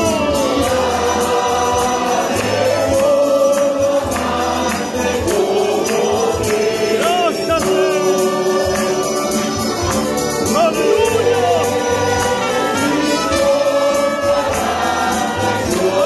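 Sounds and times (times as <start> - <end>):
acoustic guitars: 0.0 - 16.0
choir singing a hymn: 0.0 - 16.0
hand claps or tambourine: 0.0 - 16.0
piano accordion: 0.0 - 16.0.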